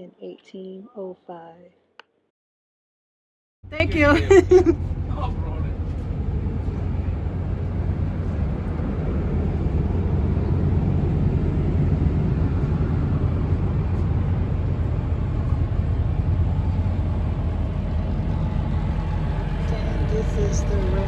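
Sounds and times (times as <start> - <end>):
bus engine rumbling: 3.7 - 21.0.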